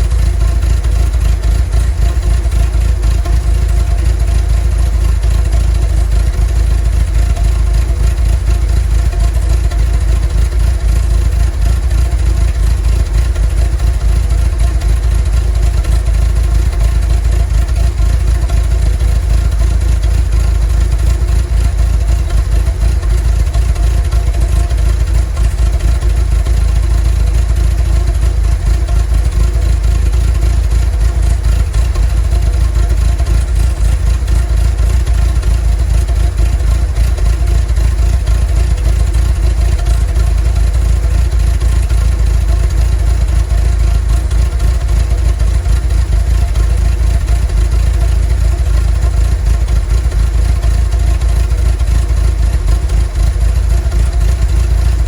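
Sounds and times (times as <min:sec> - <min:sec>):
van engine idling: 0:00.0 - 0:55.0.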